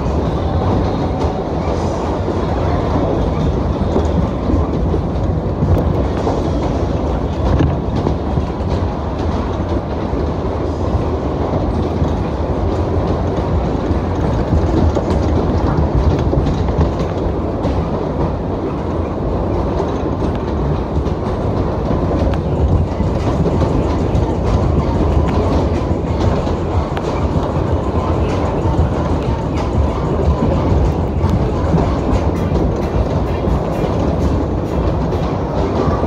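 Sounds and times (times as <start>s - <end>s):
ride cars rumbling on track: 0.0s - 36.0s.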